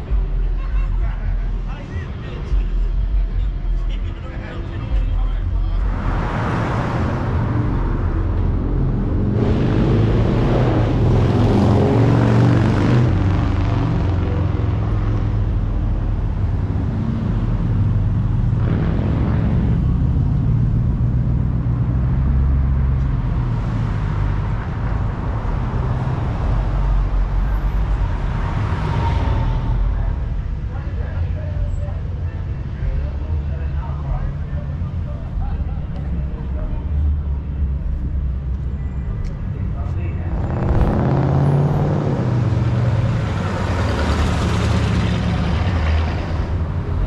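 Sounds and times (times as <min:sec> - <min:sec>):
car engines rumbling: 0:00.0 - 0:47.0.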